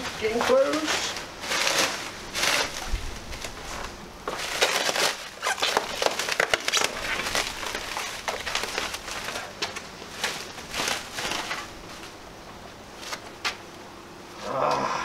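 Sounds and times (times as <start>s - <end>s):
packaging crackling and rustling: 0.0s - 13.6s.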